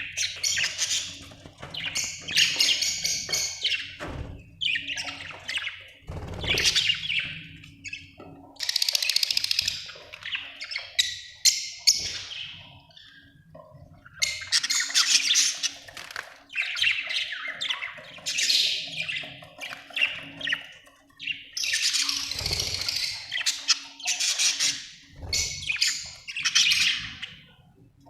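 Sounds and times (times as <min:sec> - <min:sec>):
budgerigars chirping and chattering: 0:00.0 - 0:27.6.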